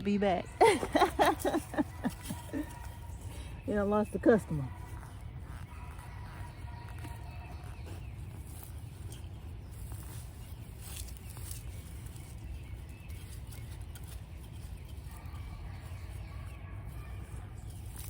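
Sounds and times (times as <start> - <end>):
soil rustling and scraping: 0.0 - 18.0.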